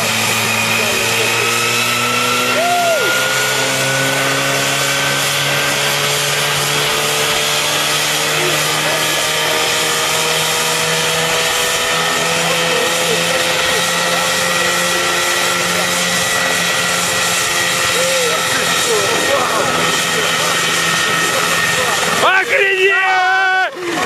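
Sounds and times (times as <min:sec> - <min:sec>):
helicopter engine running at high speed: 0:00.0 - 0:24.0.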